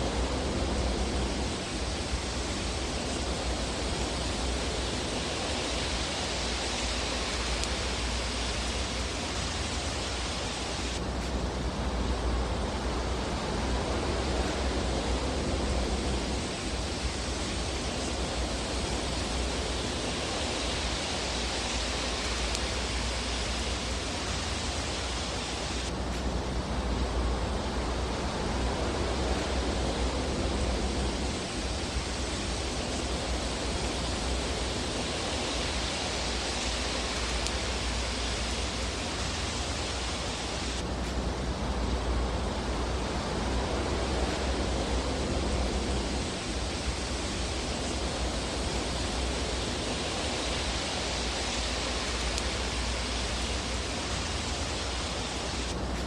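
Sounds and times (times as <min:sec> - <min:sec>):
fire hissing in fireplace: 0:00.0 - 0:56.0.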